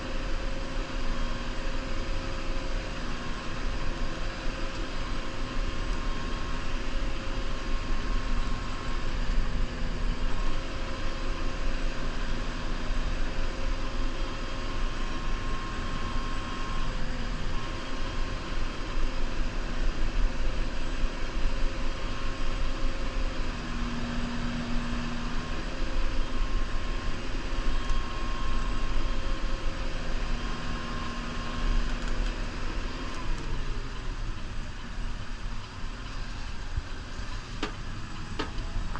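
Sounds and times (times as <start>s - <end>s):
tractor diesel engine running: 0.0s - 38.9s
whining tones: 0.0s - 38.9s.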